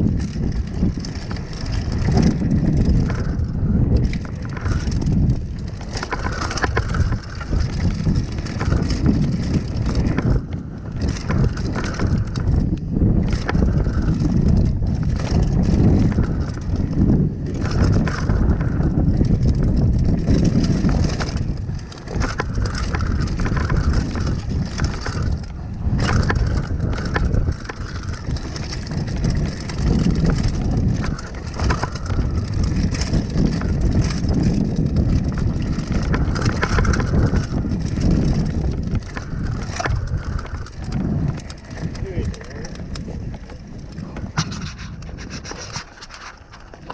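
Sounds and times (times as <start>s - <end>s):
bike rattling over bumps: 0.0s - 46.9s
bike tyres rumbling on dirt: 0.0s - 46.9s
wind on microphone: 0.0s - 46.9s.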